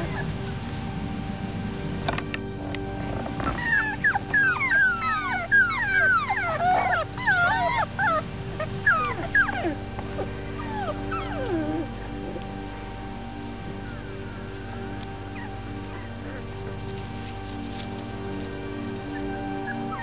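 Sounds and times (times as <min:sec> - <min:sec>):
puppies whining and yipping: 0:00.0 - 0:00.5, 0:02.8 - 0:20.0
soft background music: 0:00.0 - 0:20.0.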